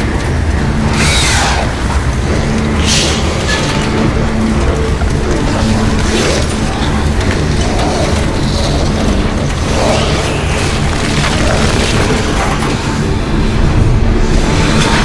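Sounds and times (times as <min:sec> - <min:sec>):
deep continuous rumble: 0:00.0 - 0:15.0
dense noise: 0:00.0 - 0:15.0.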